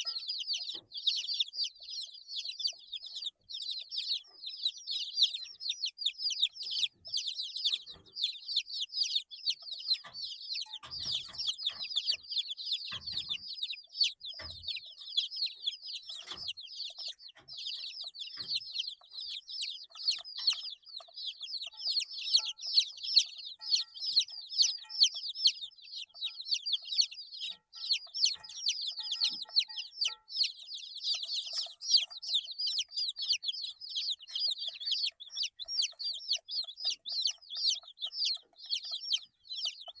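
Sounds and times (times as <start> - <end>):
chicks peeping: 0.0 - 40.0.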